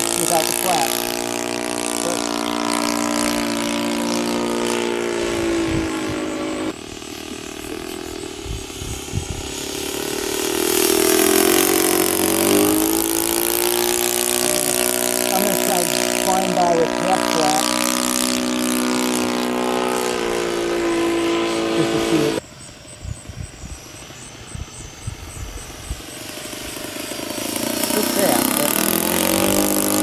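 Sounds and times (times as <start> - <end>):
model aircraft engine in flight: 0.0 - 30.0.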